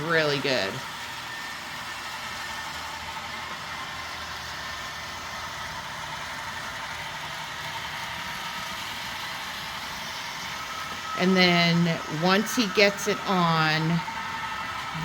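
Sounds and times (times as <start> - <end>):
model train whirring on track: 0.0 - 15.0.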